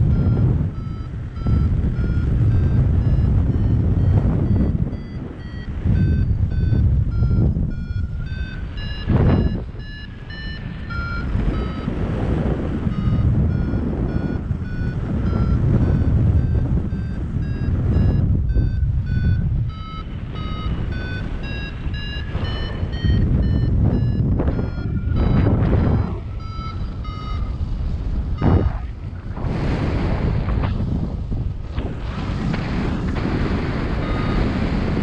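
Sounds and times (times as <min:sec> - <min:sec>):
variometer short beeps: 0:00.0 - 0:29.0, 0:33.8 - 0:35.0
wind rushing across microphone: 0:00.0 - 0:35.0.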